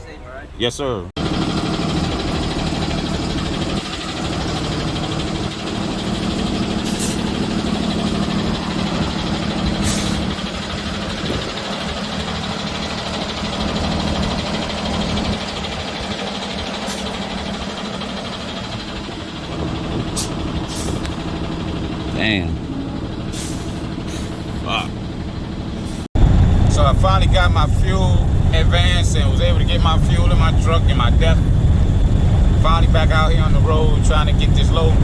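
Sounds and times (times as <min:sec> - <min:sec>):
truck engine running: 0:01.2 - 0:35.0.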